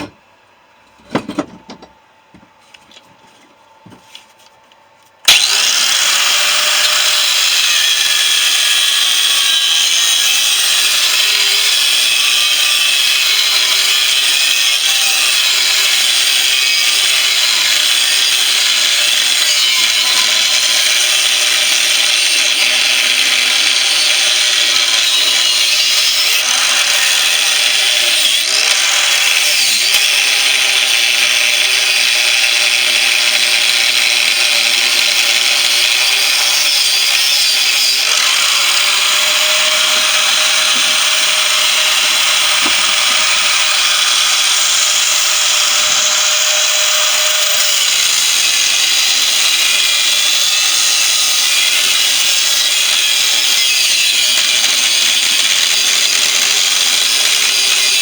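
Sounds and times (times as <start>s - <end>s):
angle grinder cutting steel: 5.3s - 58.0s.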